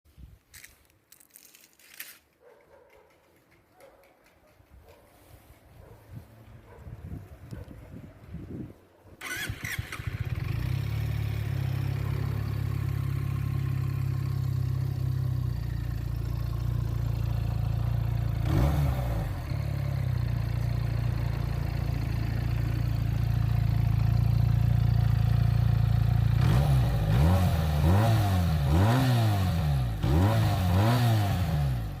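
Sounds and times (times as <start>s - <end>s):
motorcycle engine idling and revving: 2.7s - 32.0s.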